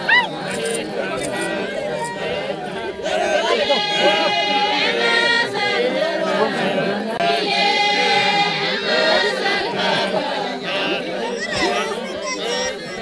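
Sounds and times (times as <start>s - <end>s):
group chanting and singing: 0.0s - 13.0s.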